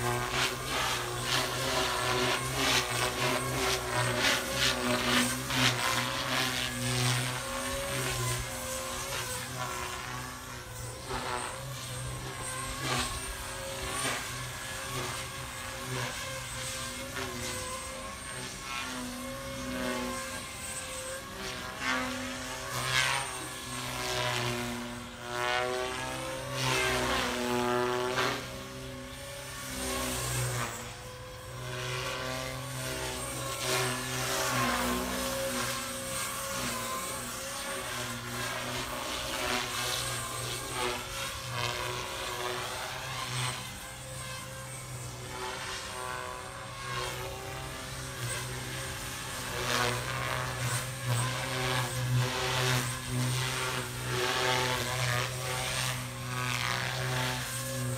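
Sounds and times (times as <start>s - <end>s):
radio-controlled helicopter flying: 0.0s - 57.9s.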